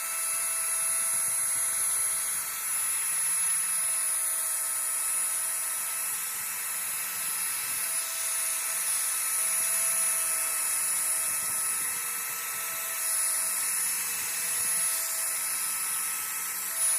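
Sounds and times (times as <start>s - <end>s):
router high-pitched whine: 0.0s - 16.9s.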